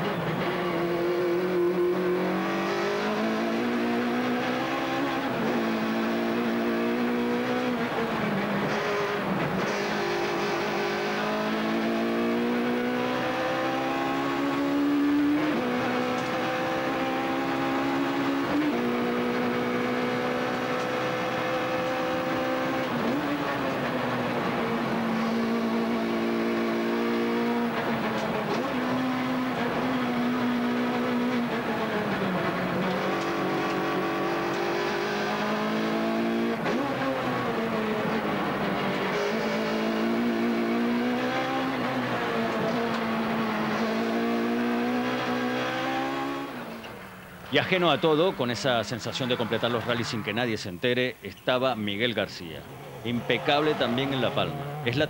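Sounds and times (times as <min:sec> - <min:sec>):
rally car engine revving: 0:00.0 - 0:50.6, 0:52.3 - 0:55.0.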